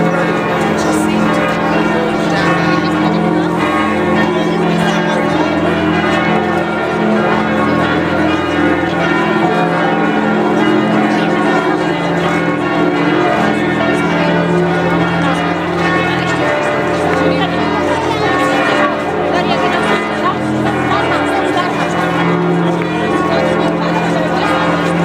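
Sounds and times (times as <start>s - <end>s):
cathedral bells pealing: 0.0s - 25.0s.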